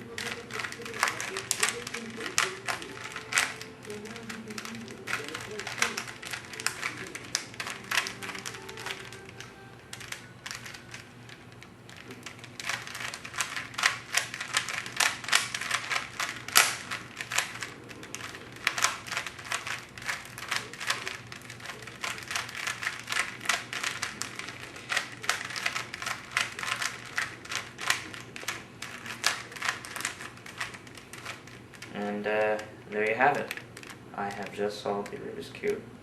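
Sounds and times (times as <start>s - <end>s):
puzzle cube clicking as twisted: 0.0s - 35.3s.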